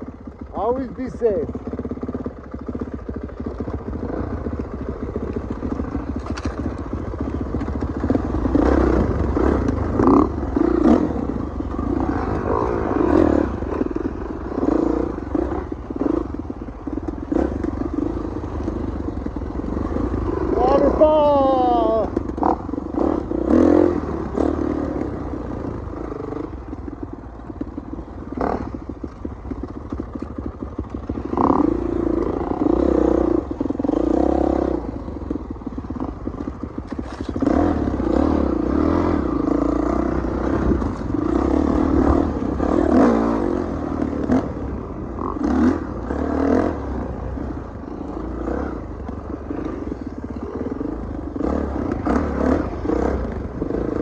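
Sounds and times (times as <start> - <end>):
bike knocking and rattling over bumps: 0.0 - 54.0
dirt bike engine revving: 0.0 - 54.0.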